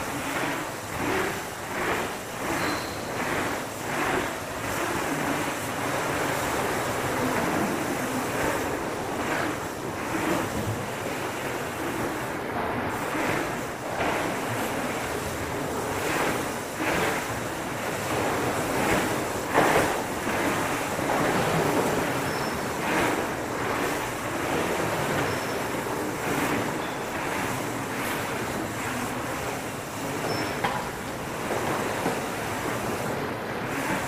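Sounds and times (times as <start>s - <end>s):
bike tyre noise: 0.0s - 34.0s.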